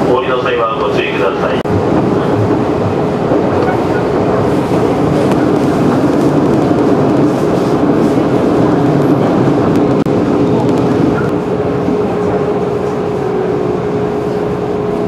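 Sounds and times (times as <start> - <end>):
train hum: 0.0 - 15.0
train wheels rumbling on rails: 0.0 - 15.0.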